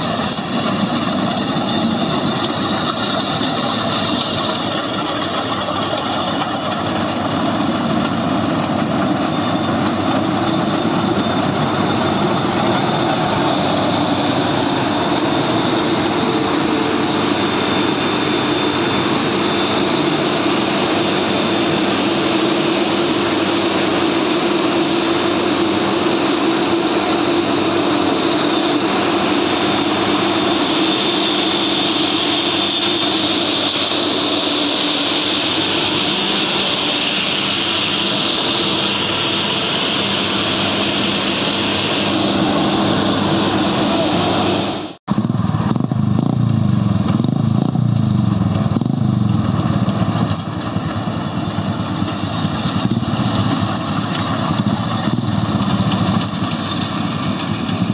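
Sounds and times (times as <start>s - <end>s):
combine harvester engine and machinery: 0.0s - 57.9s.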